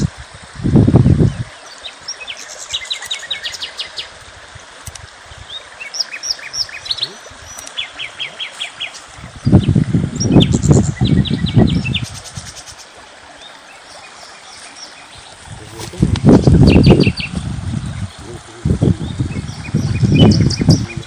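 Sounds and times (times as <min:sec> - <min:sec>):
small birds chirping: 0:01.2 - 0:04.2, 0:05.3 - 0:21.0.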